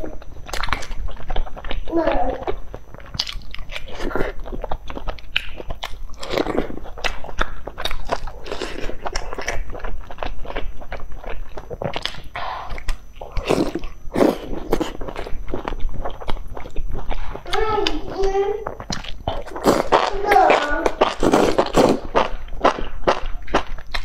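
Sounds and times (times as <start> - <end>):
person chewing food: 0.0 - 24.0
mouth clicks and smacks: 0.5 - 24.0.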